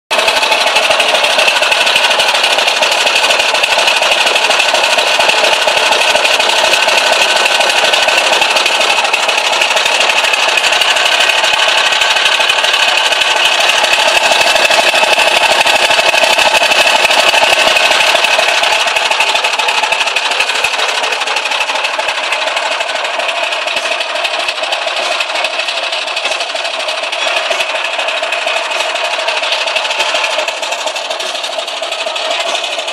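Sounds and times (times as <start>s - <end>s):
diesel engine running: 0.1s - 32.9s.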